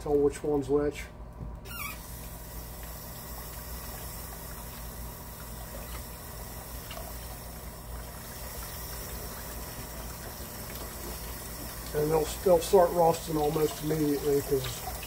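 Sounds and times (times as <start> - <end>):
steady low hum: 0.0 - 15.0
water sloshing in sink: 1.7 - 15.0.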